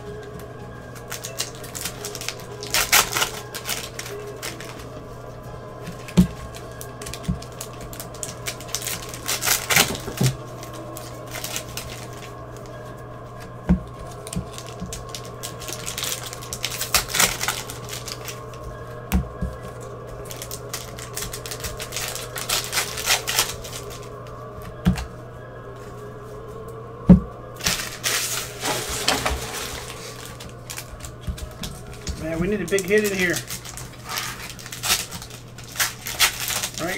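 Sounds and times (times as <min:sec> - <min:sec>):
steady low hum: 0:00.0 - 0:36.9
wrappers and cards rustling: 0:00.0 - 0:36.9.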